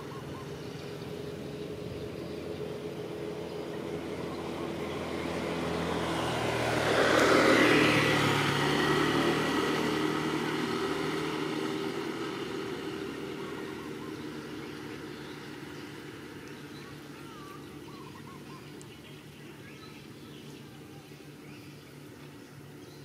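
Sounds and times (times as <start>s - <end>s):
motorcycle passing by: 0.0s - 23.0s.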